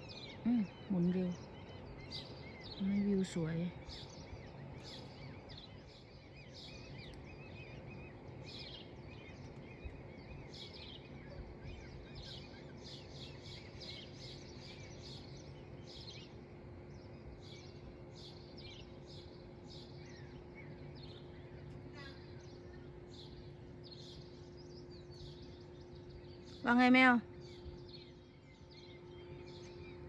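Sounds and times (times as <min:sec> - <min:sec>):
faint steady hum: 0:00.0 - 0:30.0
low background rumble: 0:00.0 - 0:30.0
songbirds chirping: 0:00.0 - 0:30.0.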